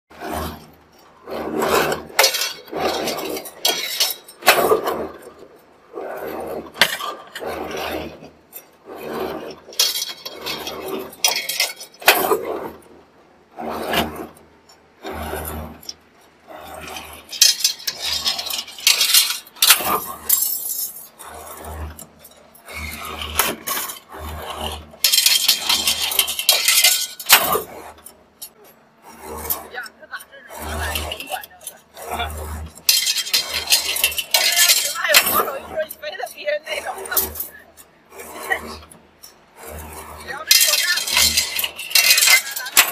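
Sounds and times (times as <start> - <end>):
metallic clanking and rattling: 0.1 - 42.9.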